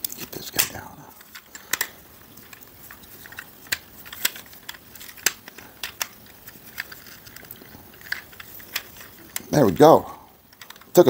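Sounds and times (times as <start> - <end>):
plastic parts clicking: 0.0 - 11.0.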